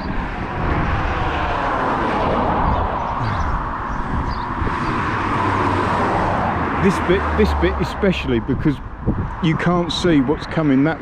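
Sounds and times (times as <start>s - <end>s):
traffic passing at speed: 0.0s - 11.0s.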